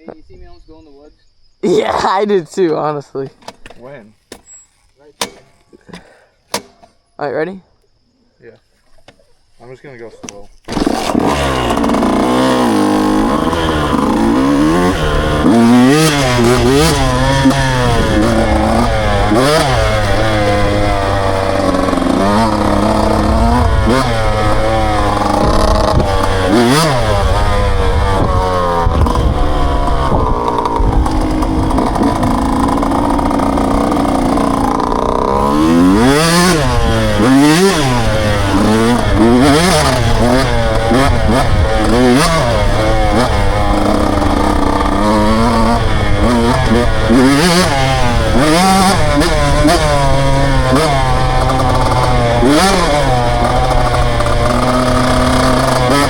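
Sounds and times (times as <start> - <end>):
dirt bike engine revving: 10.6 - 56.0.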